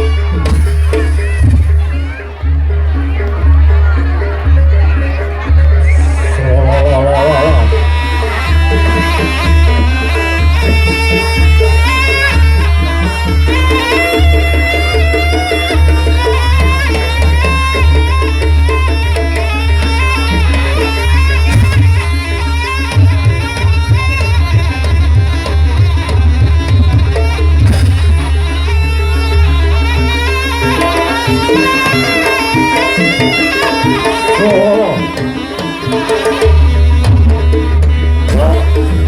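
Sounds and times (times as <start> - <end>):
booming bass: 0.0 - 34.2, 35.0 - 39.0
hand drums beating: 0.0 - 39.0.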